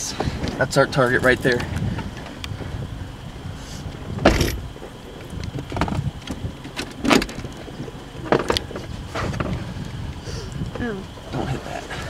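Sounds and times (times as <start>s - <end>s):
car rumbling: 0.0s - 12.0s.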